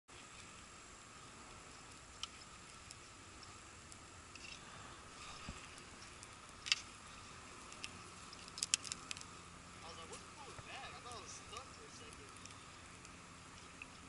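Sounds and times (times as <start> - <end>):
faint steady hiss: 0.1 - 14.0.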